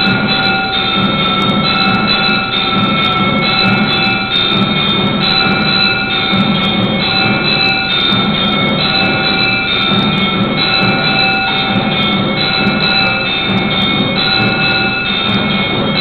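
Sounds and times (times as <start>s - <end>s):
temple bells ringing: 0.0s - 16.0s.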